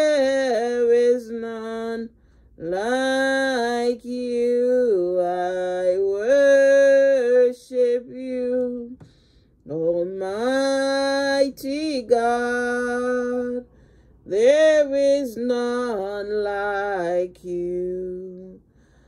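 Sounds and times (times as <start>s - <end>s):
person singing worship song: 0.0s - 19.0s.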